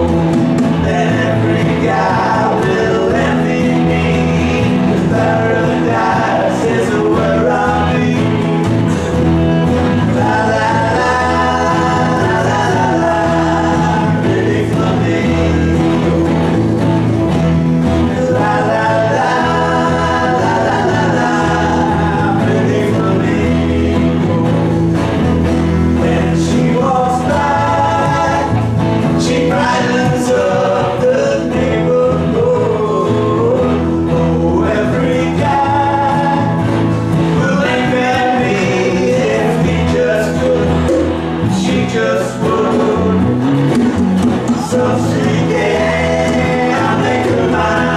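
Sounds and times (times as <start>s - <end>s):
group singing together: 0.0s - 47.9s
instrumental backing: 0.0s - 47.9s.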